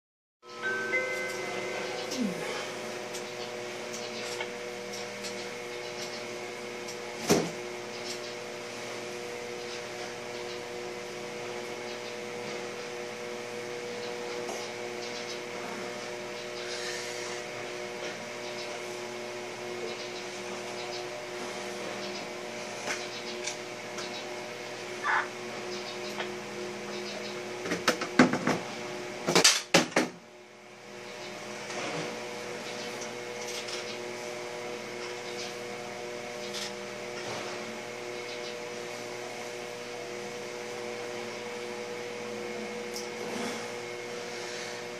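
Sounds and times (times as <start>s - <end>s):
steady machine hum: 0.4s - 44.9s.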